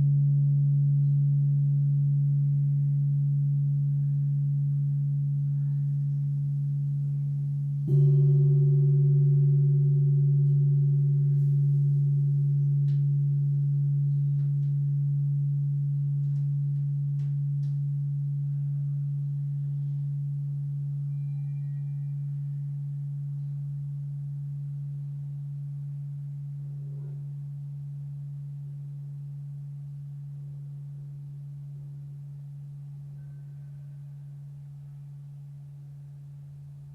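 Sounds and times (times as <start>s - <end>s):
singing bowl ringing: 0.0s - 35.5s.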